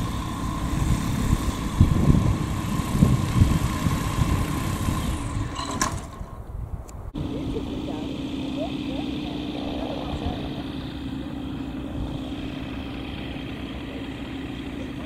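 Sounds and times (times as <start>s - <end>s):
small aircraft engine idling: 0.0s - 15.0s.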